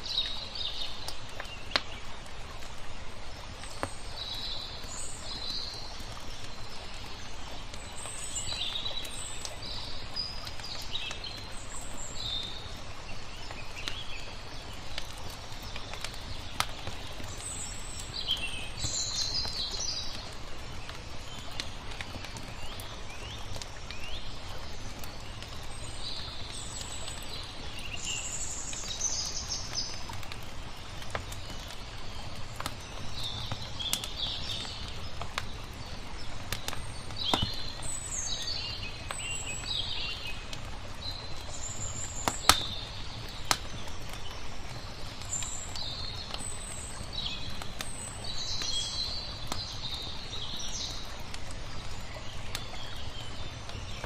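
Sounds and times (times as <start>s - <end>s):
flowing water: 0.0s - 54.0s
small birds chirping: 0.0s - 54.0s
wood fire crackling and popping: 0.2s - 54.0s.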